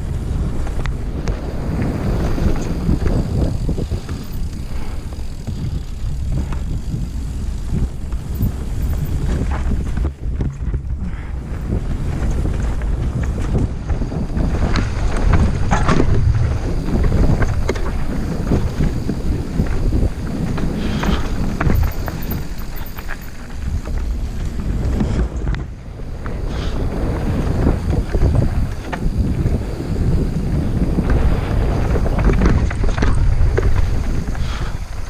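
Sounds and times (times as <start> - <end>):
bike rattling and knocking: 0.0 - 35.0
tyres rolling on rough dirt: 0.0 - 35.0
wind rushing over microphone: 0.0 - 35.0.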